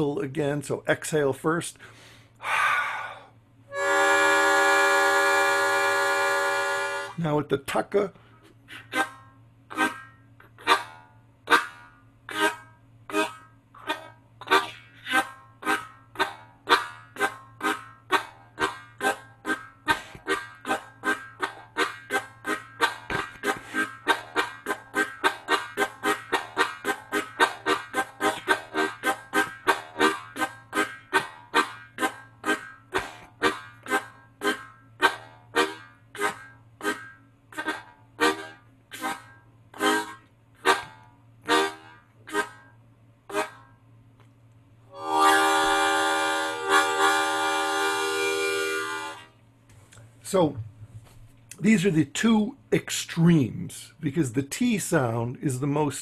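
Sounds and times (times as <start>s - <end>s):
harmonica imitating train chug: 1.8s - 43.8s, 44.9s - 49.4s.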